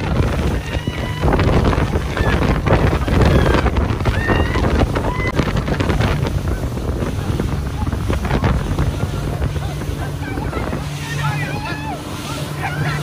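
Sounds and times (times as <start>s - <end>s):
outboard motor running: 0.0s - 13.0s
rush of boat wake: 0.0s - 13.0s
wind buffeting microphone: 0.0s - 13.0s
people shrieking: 0.4s - 5.4s, 6.4s - 13.0s.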